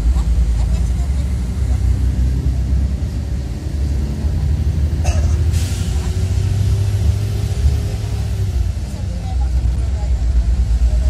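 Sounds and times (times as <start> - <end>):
coach engine rumbling: 0.0 - 11.0.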